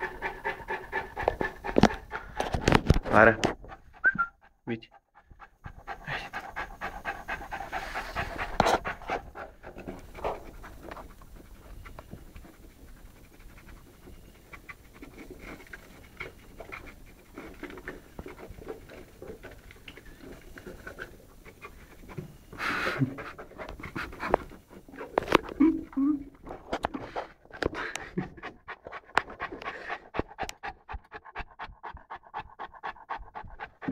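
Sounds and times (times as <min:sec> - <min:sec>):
dog panting: 0:00.0 - 0:33.9.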